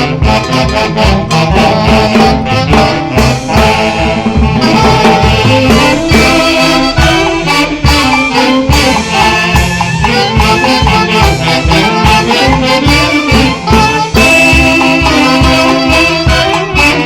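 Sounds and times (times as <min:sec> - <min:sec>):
folk orchestra playing: 0:00.0 - 0:17.0.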